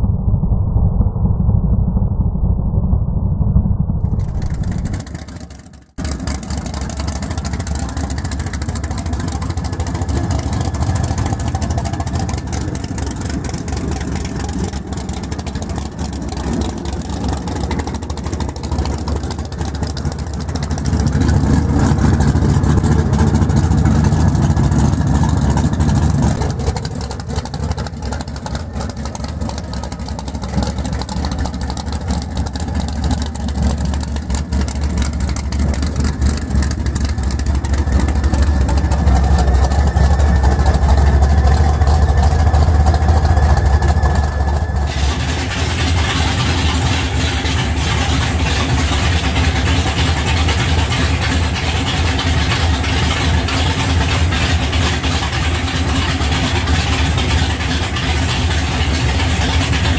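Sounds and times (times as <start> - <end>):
muffled car at full throttle: 0.0 - 59.9
car engine idling and revving: 3.8 - 59.9.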